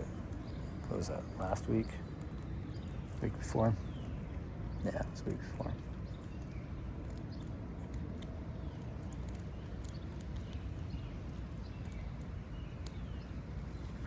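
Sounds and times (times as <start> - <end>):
faint clicks: 0.0 - 14.0
low outdoor rumble: 0.0 - 14.0.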